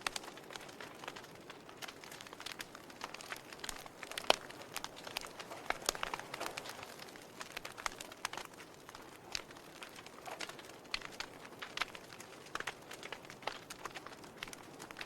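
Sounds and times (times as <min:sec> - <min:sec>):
burning logs crackling and popping: 0:00.0 - 0:15.0.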